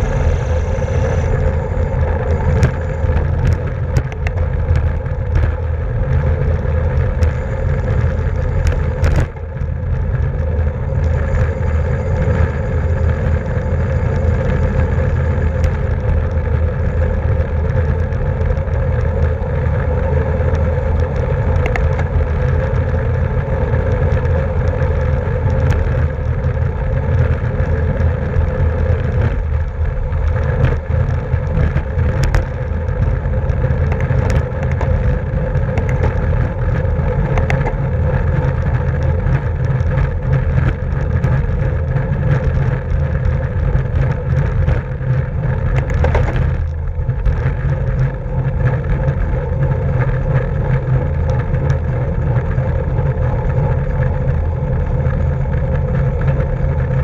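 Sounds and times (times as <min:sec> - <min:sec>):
bicycle tyre and drivetrain hum: 0:00.0 - 0:57.0
wind rushing on microphone: 0:00.0 - 0:57.0.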